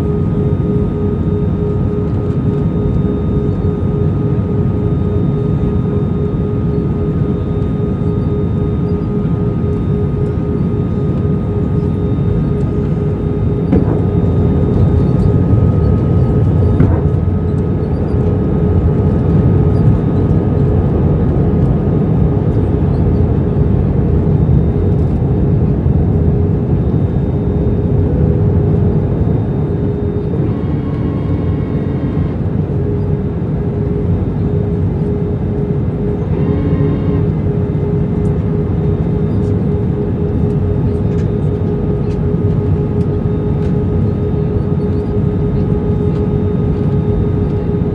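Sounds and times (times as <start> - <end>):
airliner roaring in flight: 0.0 - 47.9
steady hum: 0.0 - 47.9.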